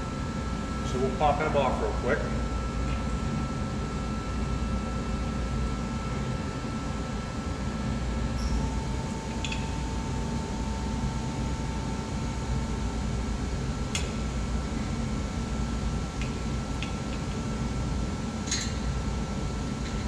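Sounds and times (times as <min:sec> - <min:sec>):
mechanical hum: 0:00.0 - 0:20.0
thin steady whine: 0:00.0 - 0:20.0.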